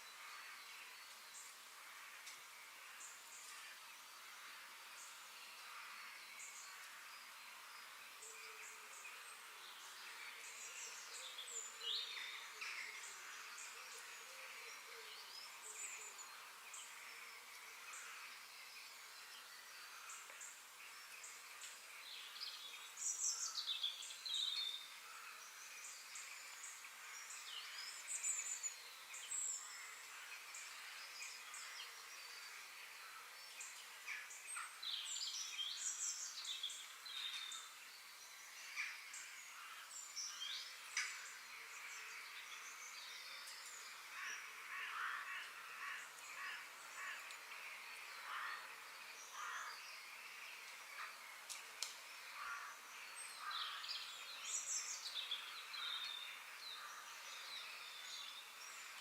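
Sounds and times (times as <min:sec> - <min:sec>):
high outdoor hiss: 0:00.0 - 0:59.0
birds chirping and singing: 0:03.0 - 0:59.0.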